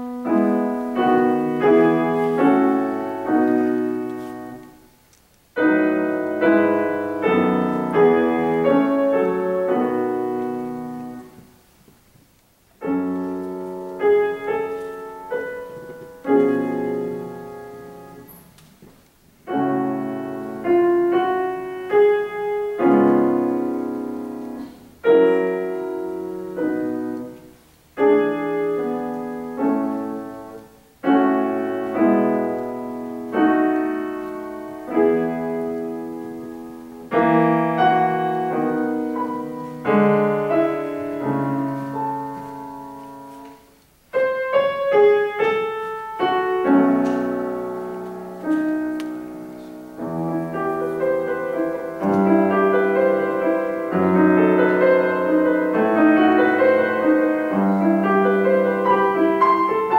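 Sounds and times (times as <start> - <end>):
solo classical piano: 0.0 - 59.9.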